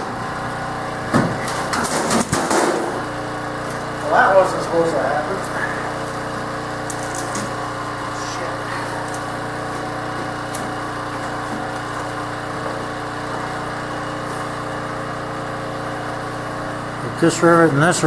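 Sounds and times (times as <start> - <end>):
steady engine drone: 0.0 - 18.0.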